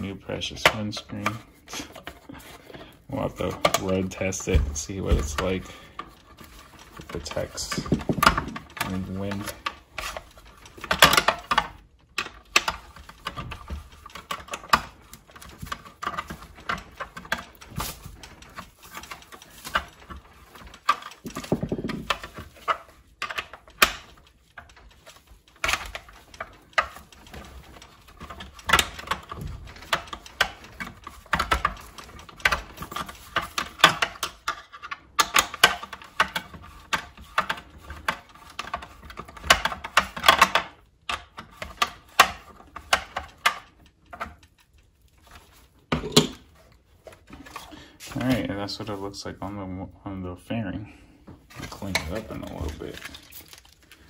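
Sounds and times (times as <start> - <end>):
hard plastic parts handled: 0.0 - 49.6, 51.2 - 54.0.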